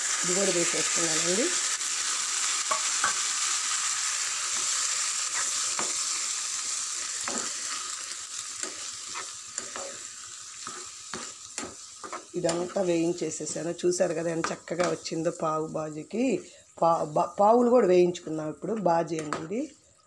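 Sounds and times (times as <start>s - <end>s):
vegetables sizzling in butter: 0.0s - 20.0s.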